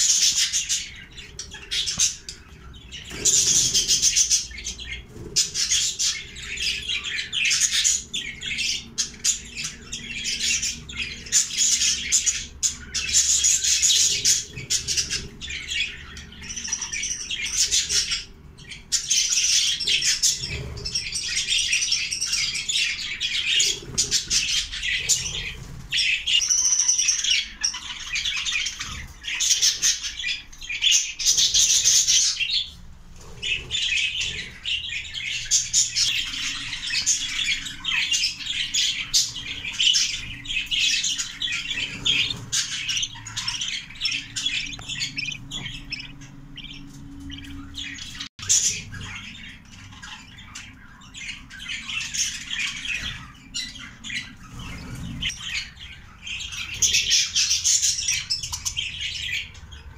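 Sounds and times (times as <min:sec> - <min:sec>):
budgerigars chirping and chattering: 0:00.0 - 0:59.9.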